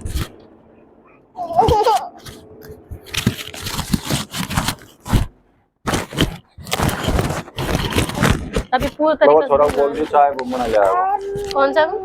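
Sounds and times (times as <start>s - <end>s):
crackling rustling handling noise: 1.5s - 12.0s.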